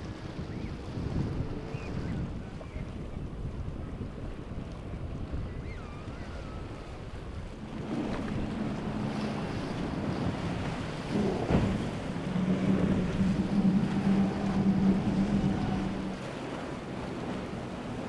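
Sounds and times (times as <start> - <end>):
powerboat engine drone: 0.0 - 18.0
rushing water: 0.0 - 18.0
wind on microphone: 0.0 - 18.0.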